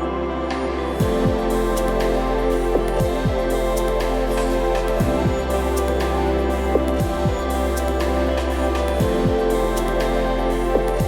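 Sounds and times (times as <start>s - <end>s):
soft synthesizer music: 0.0s - 11.0s.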